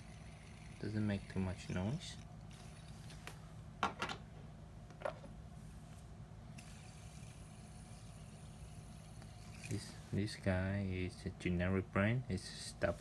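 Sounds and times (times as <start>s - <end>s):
fidget spinner humming: 0.0s - 3.7s, 4.9s - 13.0s.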